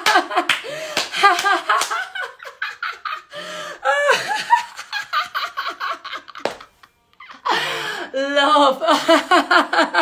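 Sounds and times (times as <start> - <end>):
woman laughing hard: 0.0 - 8.0.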